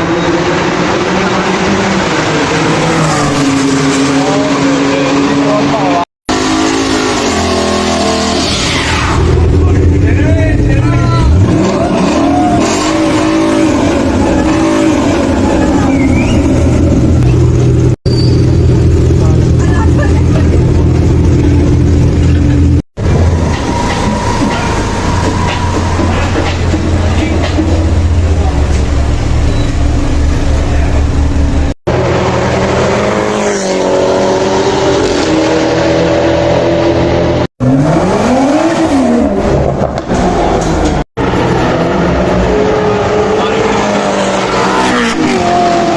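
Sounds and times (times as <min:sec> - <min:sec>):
vehicle engine revving: 0:00.0 - 0:45.9.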